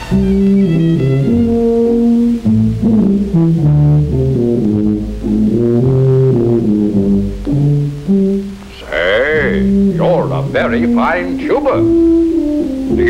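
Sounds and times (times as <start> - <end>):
tuba playing a tune: 0.0 - 13.0.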